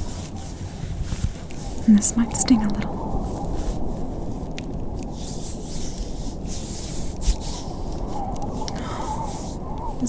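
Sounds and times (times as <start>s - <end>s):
low rumble of storm wind: 0.0s - 10.0s
soft rustle: 0.0s - 10.0s.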